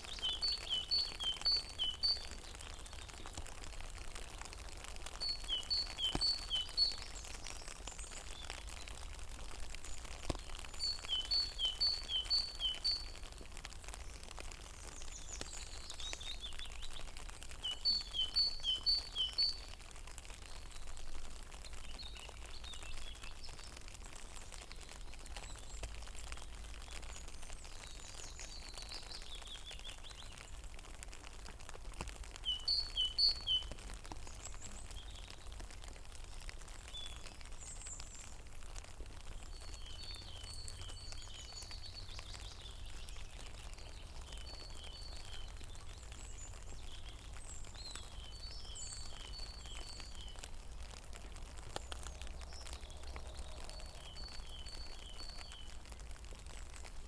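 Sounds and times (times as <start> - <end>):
small birds chirping: 0.0 - 21.0, 21.6 - 31.4, 32.0 - 57.0
light rain pattering on a pond: 0.0 - 57.0.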